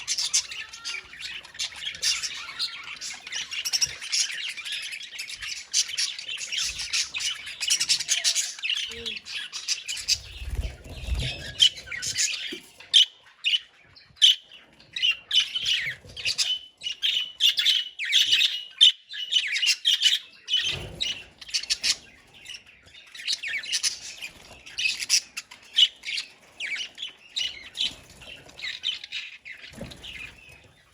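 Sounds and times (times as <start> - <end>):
budgerigars chattering: 0.0 - 30.9.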